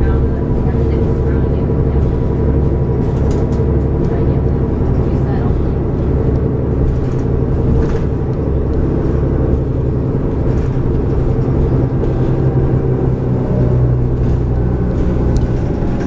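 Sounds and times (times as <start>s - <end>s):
bus engine hum and rumble: 0.0s - 16.0s.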